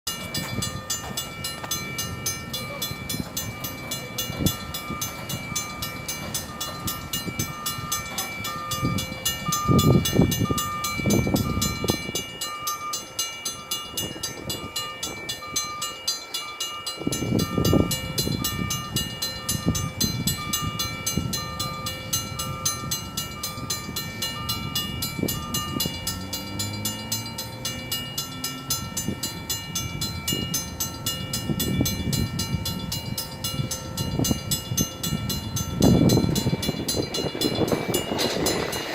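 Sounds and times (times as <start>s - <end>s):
mechanical crossing bell ringing: 0.1s - 38.9s
train rumbling on rails: 0.1s - 38.9s.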